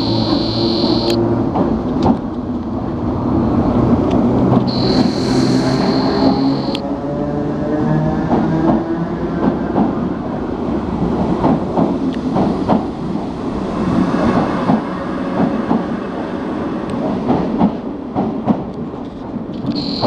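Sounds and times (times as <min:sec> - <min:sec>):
electric train running rumble: 0:00.0 - 0:20.0.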